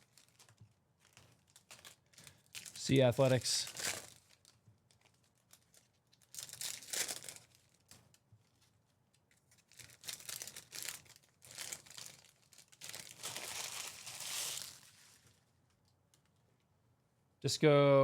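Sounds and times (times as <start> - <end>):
wrappers tearing and crinkling: 0.0 - 8.6, 9.2 - 15.4.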